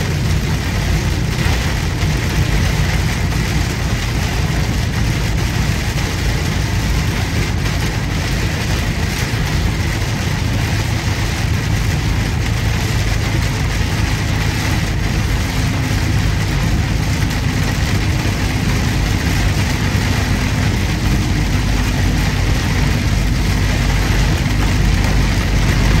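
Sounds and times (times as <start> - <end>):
truck engine hum: 0.0 - 26.0
tyres hissing on wet road: 0.0 - 26.0.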